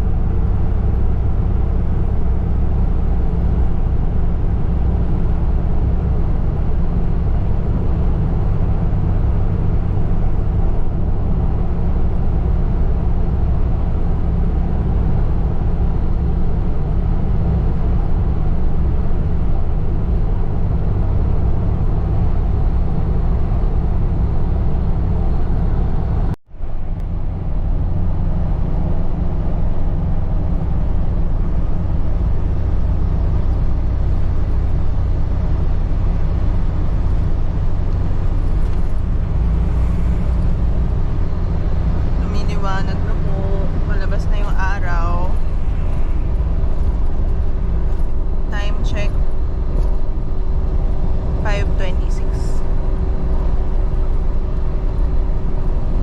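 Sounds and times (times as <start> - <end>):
car cabin engine and road noise: 0.0 - 56.0.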